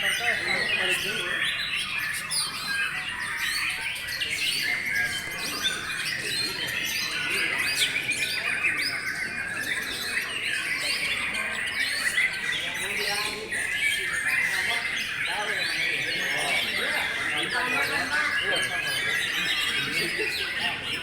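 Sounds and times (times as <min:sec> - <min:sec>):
songbirds singing in chorus: 0:00.0 - 0:21.0.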